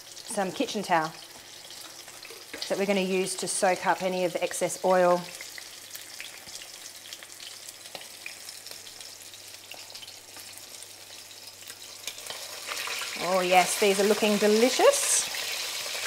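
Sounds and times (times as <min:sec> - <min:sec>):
fish sizzling in a frying pan: 0:00.0 - 0:16.0.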